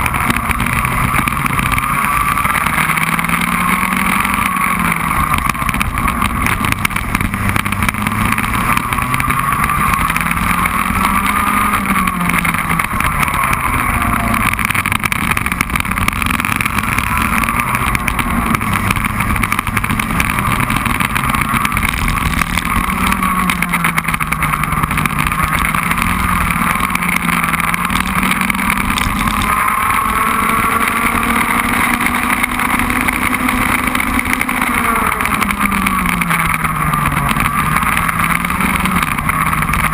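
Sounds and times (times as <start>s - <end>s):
kart engine revving: 0.0s - 39.9s
rushing noise: 0.0s - 39.9s.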